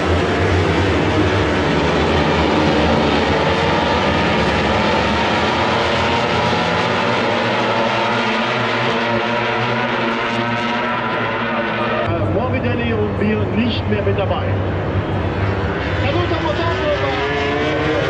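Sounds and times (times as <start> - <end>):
racing motorcycle engines revving: 0.0 - 18.0.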